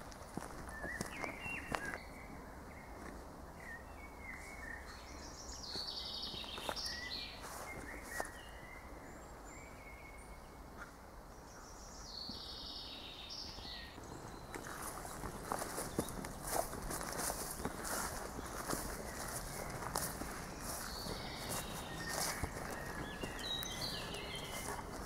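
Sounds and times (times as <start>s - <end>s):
outdoor background hiss: 0.0s - 25.0s
small birds chirping: 0.0s - 25.0s
trilled bird song: 0.7s - 3.0s, 3.6s - 10.6s, 11.4s - 25.0s.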